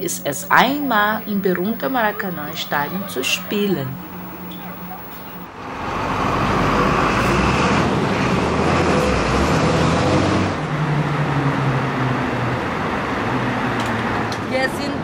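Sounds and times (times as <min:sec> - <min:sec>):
heavy vehicle engine: 0:00.0 - 0:14.5
road traffic: 0:00.0 - 0:15.0.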